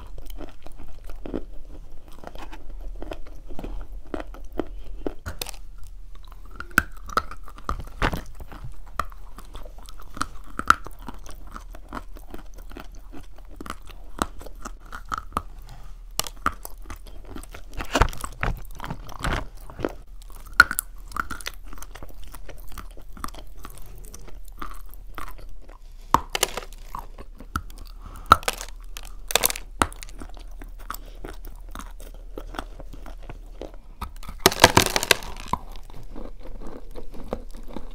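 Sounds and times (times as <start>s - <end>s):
chalk crunching and chewing: 0.0s - 37.9s.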